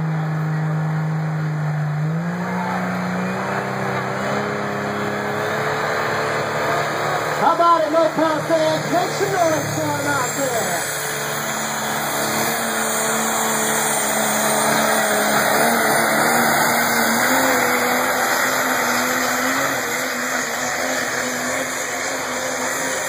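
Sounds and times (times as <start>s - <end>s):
truck engine running hard: 0.0s - 23.0s.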